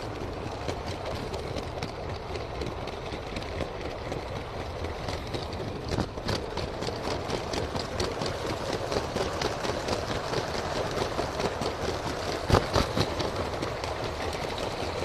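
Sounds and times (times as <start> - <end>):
toy train motor and wheel rumble: 0.0 - 15.0
wheels clicking over track joints: 0.0 - 15.0.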